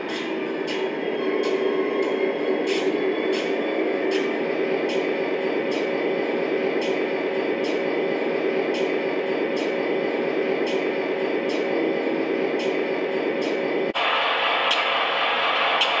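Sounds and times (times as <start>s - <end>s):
model train rumbling on track: 0.0s - 16.0s.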